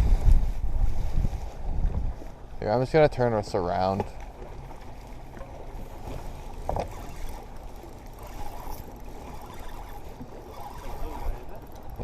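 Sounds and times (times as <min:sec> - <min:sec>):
wind and water rushing: 0:00.0 - 0:12.0.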